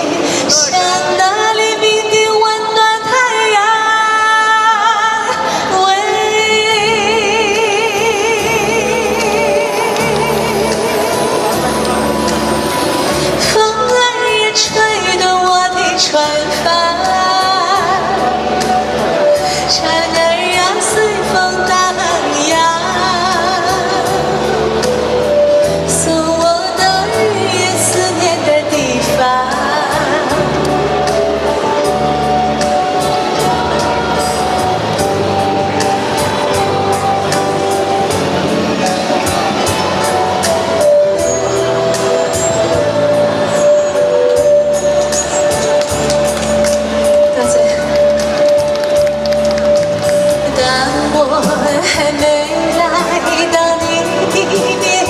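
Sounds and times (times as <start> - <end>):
woman singing with vibrato: 0.0 - 48.6, 50.3 - 55.0
backing track: 0.0 - 55.0.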